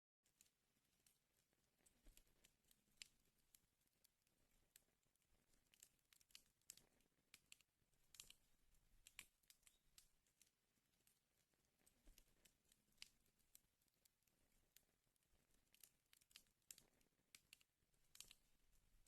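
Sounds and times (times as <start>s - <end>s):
wood fire crackling: 0.3s - 19.0s.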